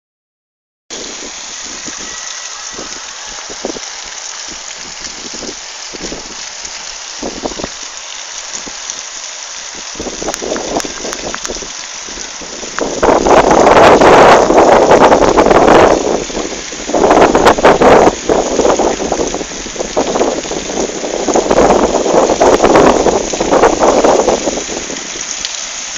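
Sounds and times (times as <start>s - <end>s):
steady rain falling: 0.9s - 25.9s.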